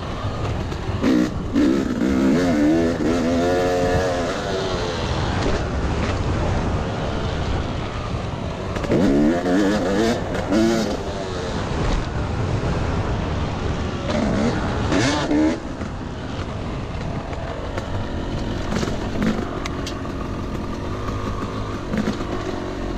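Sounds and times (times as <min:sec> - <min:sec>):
two-stroke motorcycle engine revving: 0:00.0 - 0:07.9, 0:08.6 - 0:16.1, 0:17.0 - 0:22.9.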